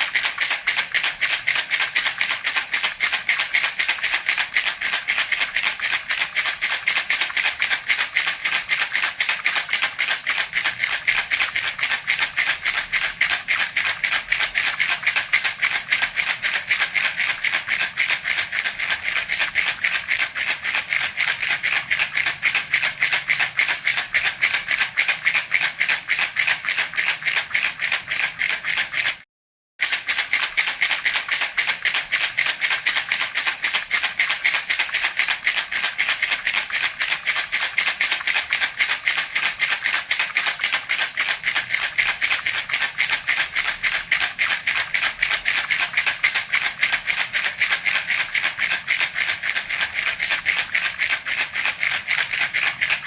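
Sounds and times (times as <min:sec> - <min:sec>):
baby rattle shaking: 0:00.0 - 0:29.2, 0:29.8 - 0:53.0.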